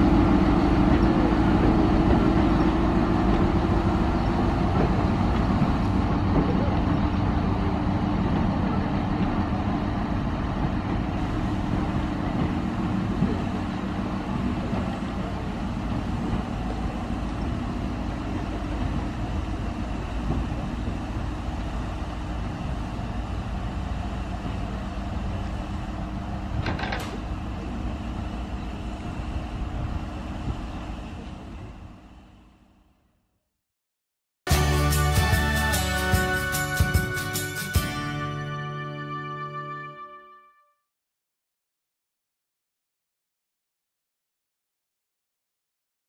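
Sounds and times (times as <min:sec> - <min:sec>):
locomotive engine droning: 0:00.0 - 0:33.0, 0:34.5 - 0:40.5.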